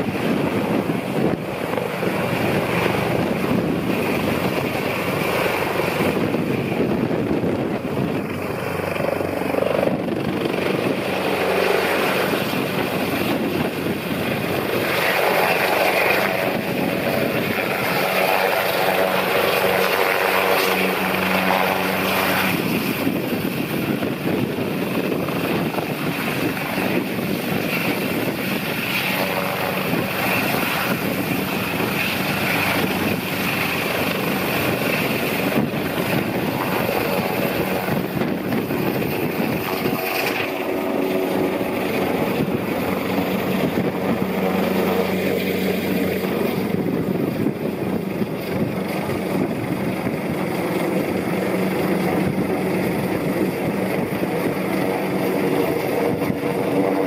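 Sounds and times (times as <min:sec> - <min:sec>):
helicopter engine noise: 0:00.0 - 0:57.0
helicopter rotor beating: 0:00.0 - 0:57.0.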